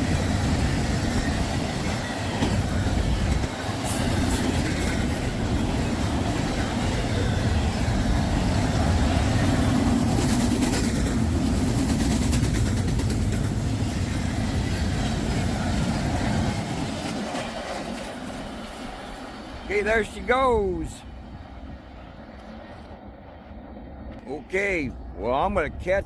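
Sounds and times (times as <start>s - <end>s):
train wheels on rails: 0.0s - 24.6s.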